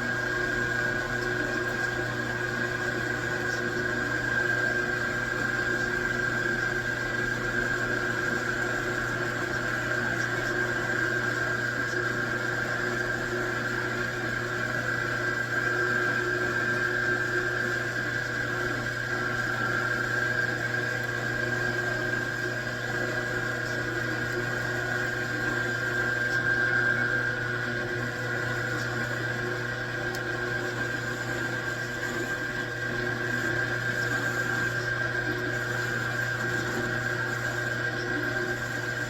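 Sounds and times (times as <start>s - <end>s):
machine low hum: 0.0s - 39.0s
machine tool high whine: 0.0s - 39.0s.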